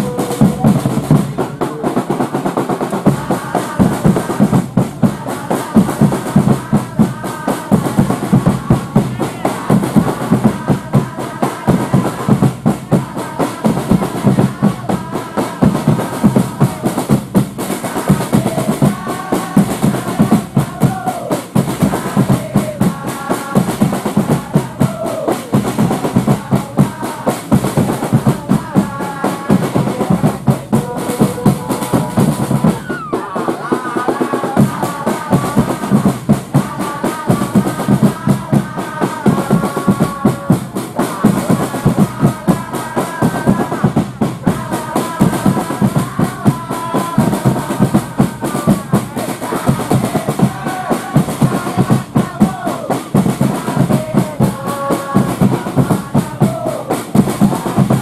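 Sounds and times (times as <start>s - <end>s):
crowd singing a chant: 0.0s - 58.0s
fast drumming: 0.0s - 58.0s.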